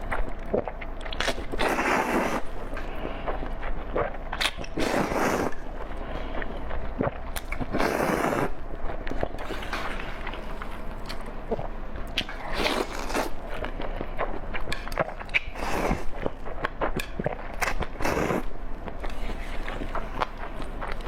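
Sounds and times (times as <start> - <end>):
noisy eating bursts: 0.0 - 21.0
wet chewing: 0.0 - 21.0.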